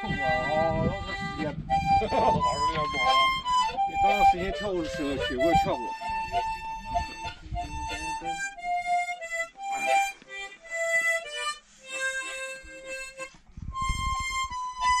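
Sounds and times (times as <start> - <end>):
harmonica melody: 0.0 - 15.0.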